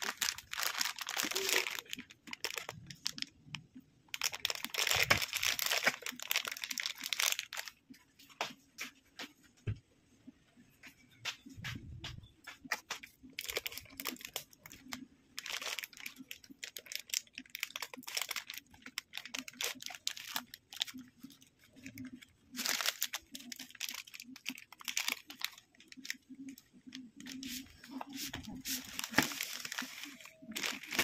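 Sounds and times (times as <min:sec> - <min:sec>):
plastic pouch crinkling and tearing: 0:00.0 - 0:07.8, 0:12.7 - 0:31.0.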